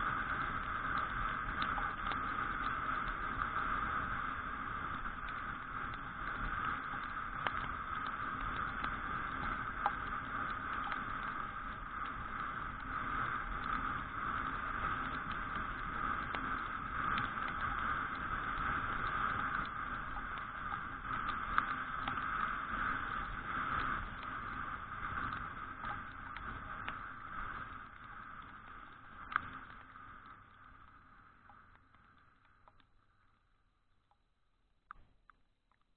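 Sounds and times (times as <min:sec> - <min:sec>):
wind and tyre hiss: 0:00.0 - 0:30.8
raindrops tapping camera: 0:00.7 - 0:35.9.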